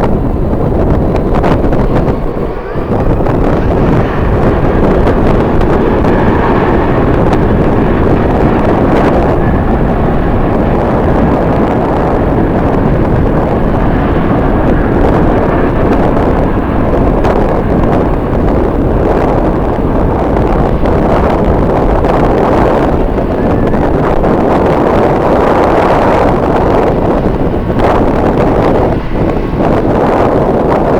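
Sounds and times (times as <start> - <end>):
jet engines roaring: 0.0 - 30.9
wind buffeting microphone: 0.0 - 30.9.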